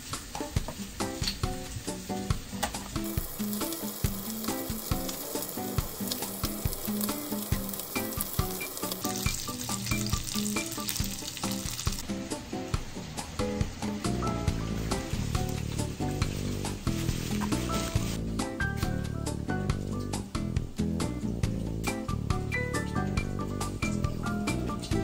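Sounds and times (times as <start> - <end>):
background music: 0.0 - 25.0
chicken sizzling in a frying pan: 0.0 - 25.0.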